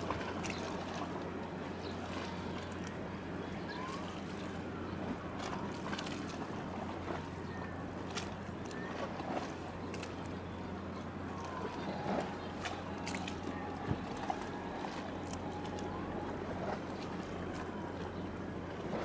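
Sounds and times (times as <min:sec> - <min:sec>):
boat engine humming: 0:00.0 - 0:19.0
harbour noise: 0:00.0 - 0:19.0.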